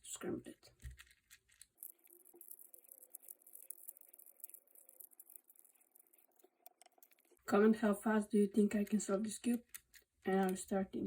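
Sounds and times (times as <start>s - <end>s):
puzzle cube clicking and rattling: 0.0s - 11.0s.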